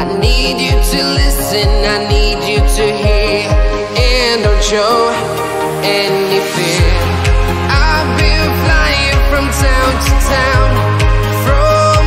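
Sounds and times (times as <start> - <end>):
deep kick drum beat: 0.0 - 4.9, 6.8 - 12.0
electronic music with synth tones: 0.0 - 12.0.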